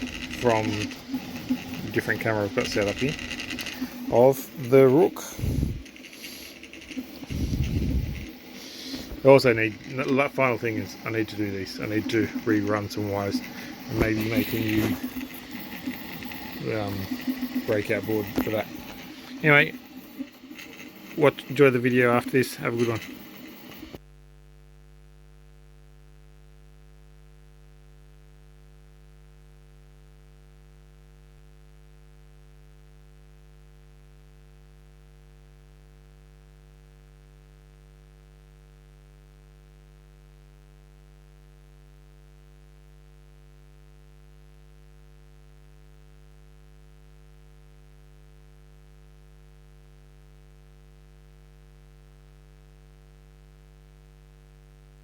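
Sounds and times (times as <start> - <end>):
faint mains hum: 0.0 - 55.0.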